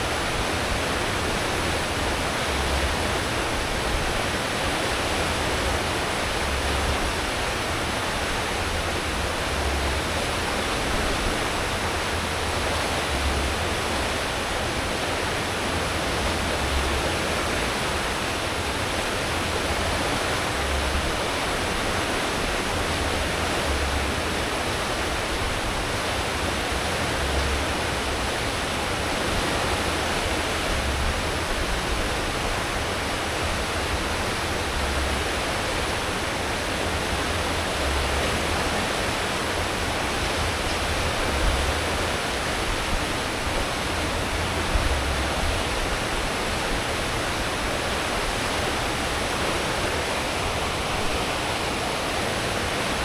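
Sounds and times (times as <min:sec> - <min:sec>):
ship wake rushing: 0:00.0 - 0:53.0.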